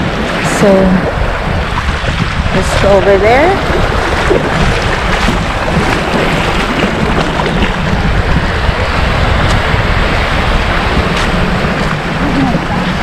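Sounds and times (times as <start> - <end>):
sea waves washing onto beach: 0.0 - 13.0
wind buffeting microphone: 0.0 - 13.0.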